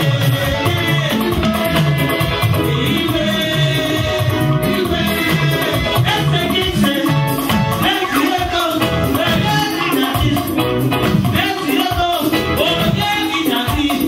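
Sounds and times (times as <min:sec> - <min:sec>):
drums and percussion beat: 0:00.0 - 0:14.0
voices singing: 0:00.0 - 0:14.0.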